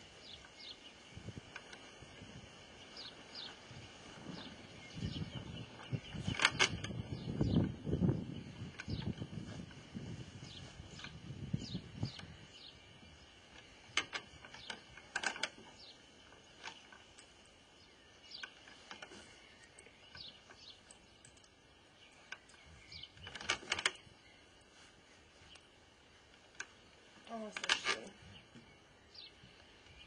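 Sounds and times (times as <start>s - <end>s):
birds chirping faintly: 0.0s - 30.0s.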